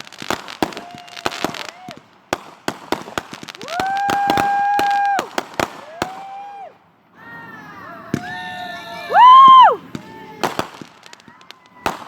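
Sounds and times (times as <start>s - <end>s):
firework cracks: 0.0s - 12.0s
whistling fireworks: 0.0s - 12.0s.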